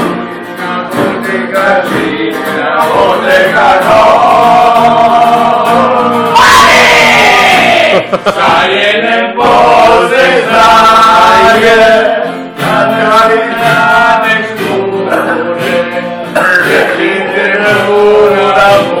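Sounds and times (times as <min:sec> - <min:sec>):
men singing in chorus: 0:00.4 - 0:19.0.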